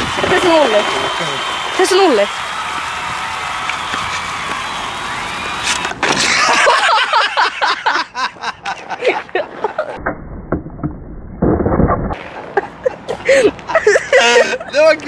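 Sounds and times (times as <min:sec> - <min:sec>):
people laughing and exclaiming: 0:00.0 - 0:10.0, 0:12.5 - 0:15.0.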